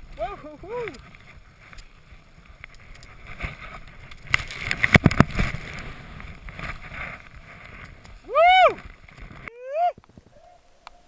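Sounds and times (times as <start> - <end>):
skis sliding over snow: 0.0 - 11.0.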